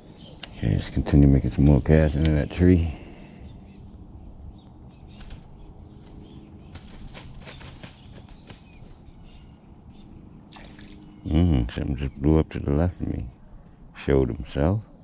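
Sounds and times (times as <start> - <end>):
faint low hum: 0.0 - 15.0
high insect buzz: 0.0 - 15.0.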